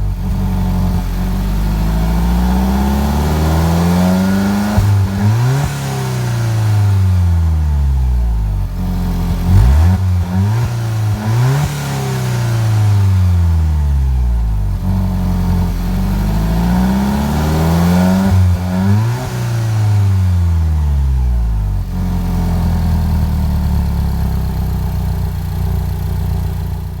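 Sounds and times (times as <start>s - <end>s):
car engine revving and idling: 0.0s - 27.0s.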